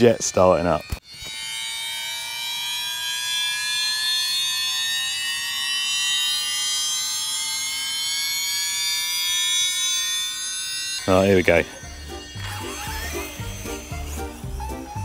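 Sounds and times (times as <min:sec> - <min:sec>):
stabilizer whine rising in pitch: 0:00.0 - 0:15.0.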